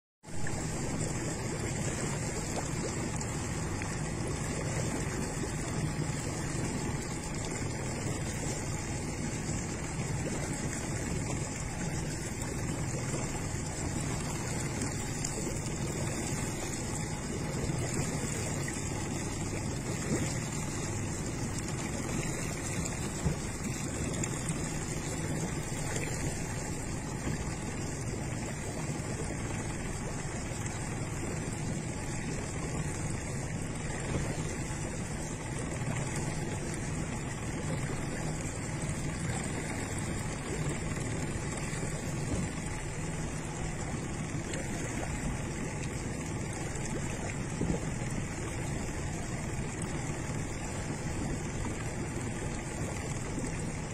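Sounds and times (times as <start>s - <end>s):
motorboat engine running: 0.2s - 53.9s
water rushing past hull: 0.2s - 53.9s.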